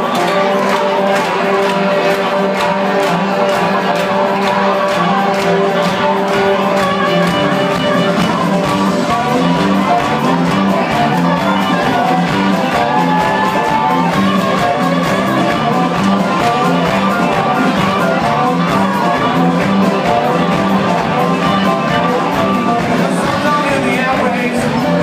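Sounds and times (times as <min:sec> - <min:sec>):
live blues band: 0:00.0 - 0:25.0.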